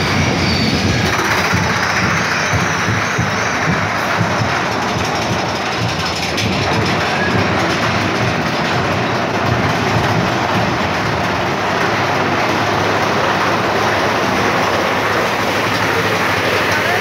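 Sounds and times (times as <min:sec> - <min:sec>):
roller coaster rumbling and rattling: 0:00.0 - 0:17.0.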